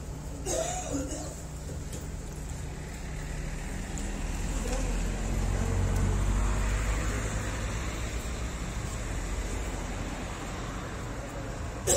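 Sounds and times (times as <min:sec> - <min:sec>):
passing vehicles rumble: 0:00.0 - 0:11.9
steady traffic hiss: 0:00.0 - 0:11.9.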